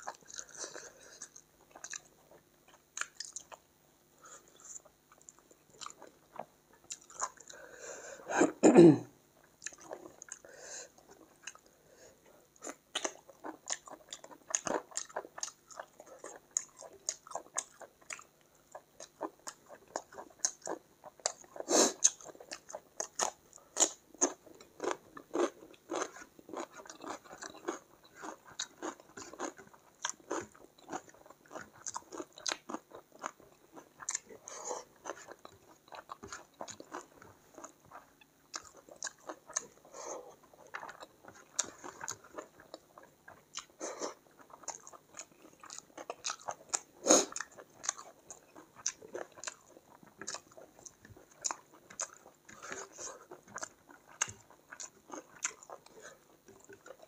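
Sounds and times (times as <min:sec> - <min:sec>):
chewing and crunching: 0:00.0 - 0:07.7, 0:09.4 - 0:57.0.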